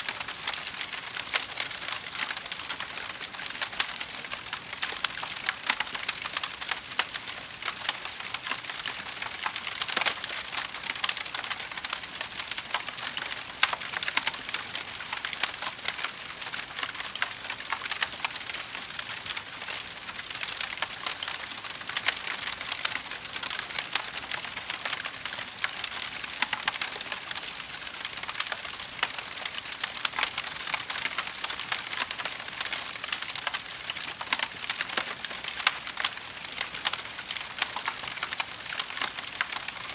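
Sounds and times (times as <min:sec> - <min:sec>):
fire crackling: 0:00.1 - 0:36.4.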